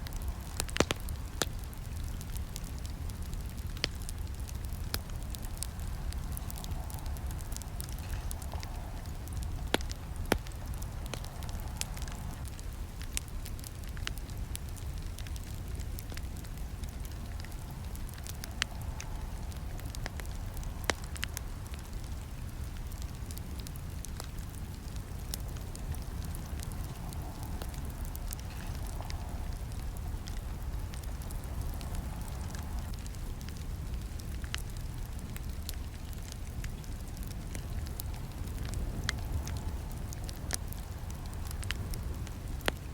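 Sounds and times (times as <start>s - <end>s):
campfire flames rumbling: 0.0s - 42.9s
fire crackling and popping: 0.0s - 42.9s.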